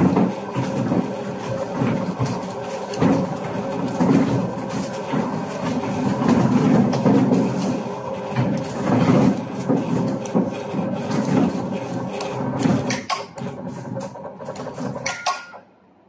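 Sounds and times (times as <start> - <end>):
coil winding machine humming: 0.0 - 15.6.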